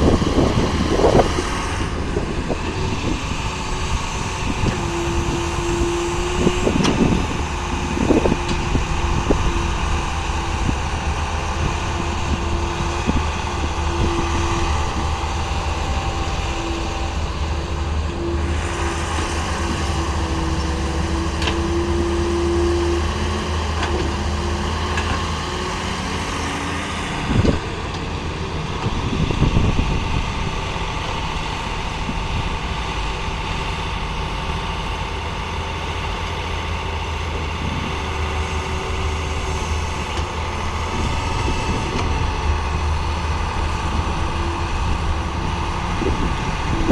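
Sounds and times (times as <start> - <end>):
excavator diesel engine: 0.0 - 46.9
hydraulic whine: 0.0 - 46.9.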